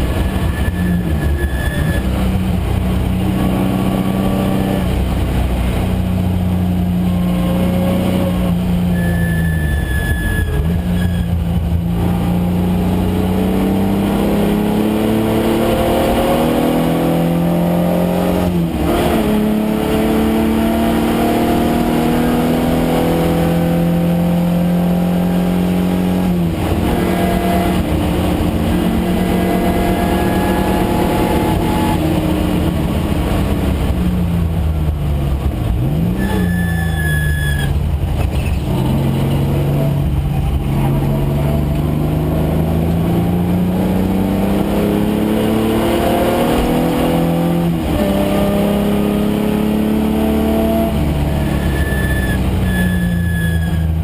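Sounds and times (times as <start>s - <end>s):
car engine revving hard: 0.0s - 34.5s, 38.5s - 54.0s.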